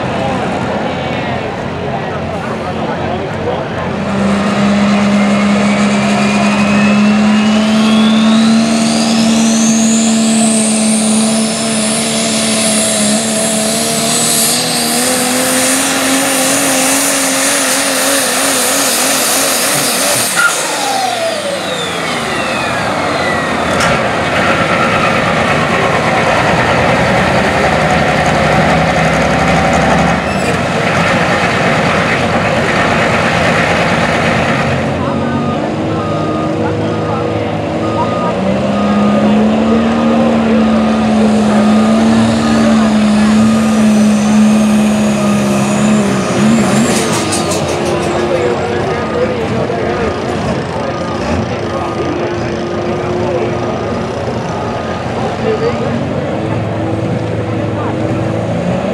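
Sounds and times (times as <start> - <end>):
diesel engine at full throttle: 0.0 - 58.9
turbo whine: 4.4 - 55.8.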